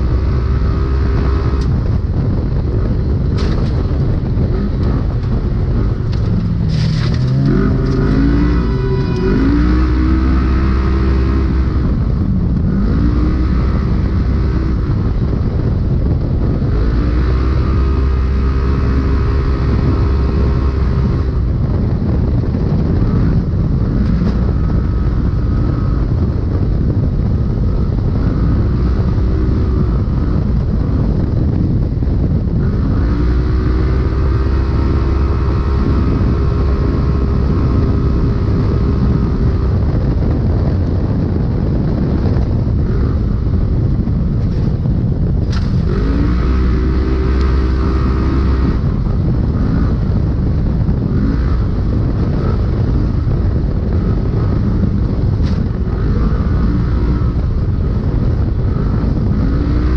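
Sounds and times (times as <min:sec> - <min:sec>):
engine running hard: 0:00.0 - 0:59.9.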